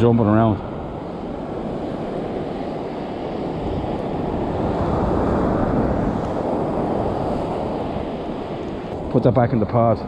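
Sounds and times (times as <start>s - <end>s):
surf breaking on beach: 0.0s - 9.8s
wind buffeting microphone: 0.0s - 10.0s.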